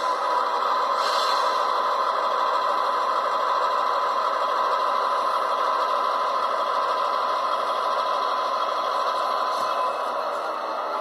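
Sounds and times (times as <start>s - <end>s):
model diesel engine through small speaker: 0.0s - 11.0s.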